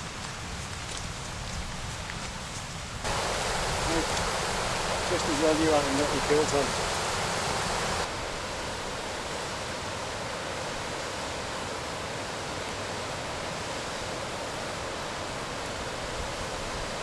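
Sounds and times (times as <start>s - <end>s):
waterfall roaring: 3.0s - 17.0s.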